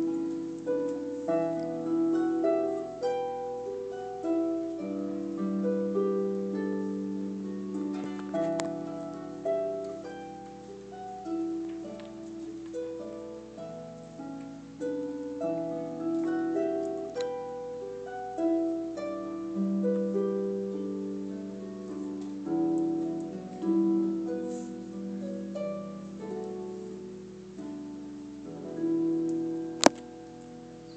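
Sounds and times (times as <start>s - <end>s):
solo harp playing slow air: 0.0s - 30.9s.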